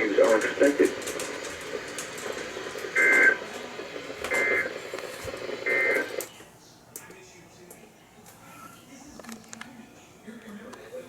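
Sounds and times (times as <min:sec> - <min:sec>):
steady radio hiss: 0:00.0 - 0:11.0.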